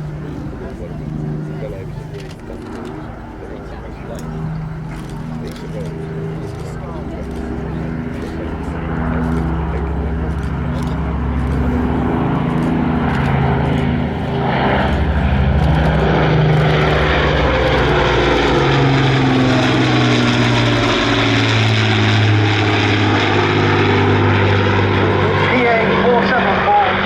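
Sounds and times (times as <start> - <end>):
propeller aircraft engines droning: 0.0 - 27.0.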